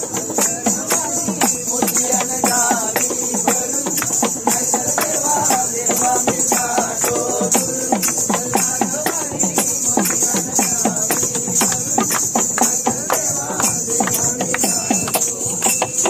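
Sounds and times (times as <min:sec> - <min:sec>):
drum played in dance rhythm: 0:00.0 - 0:16.0
high jingling: 0:00.0 - 0:16.0.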